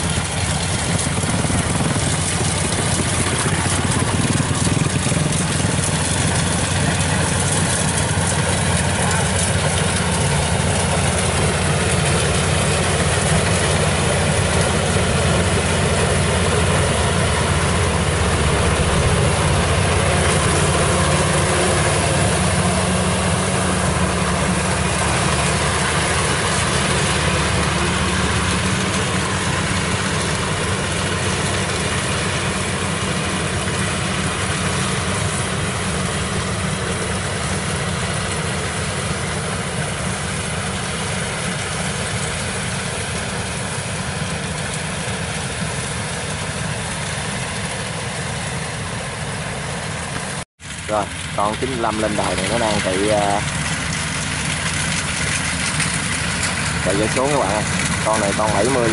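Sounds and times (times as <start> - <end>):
combine harvester engine drone: 0.0 - 58.9
machinery rushing noise: 0.0 - 58.9.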